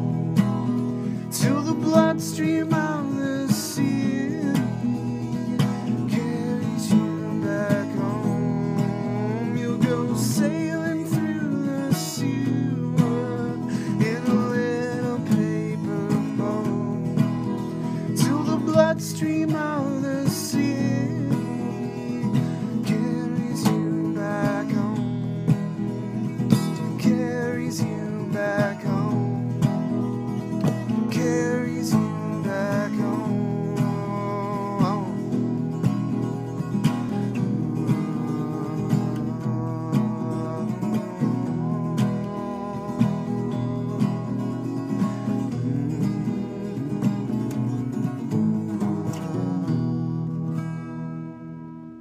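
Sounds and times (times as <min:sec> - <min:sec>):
man singing: 0:00.0 - 0:51.2
acoustic guitar strumming: 0:00.0 - 0:52.0.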